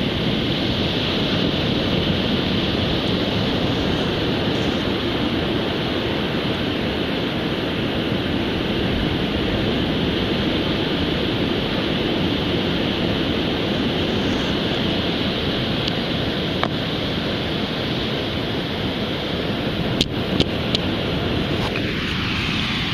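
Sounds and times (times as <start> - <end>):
waves breaking on beach: 0.0 - 22.9.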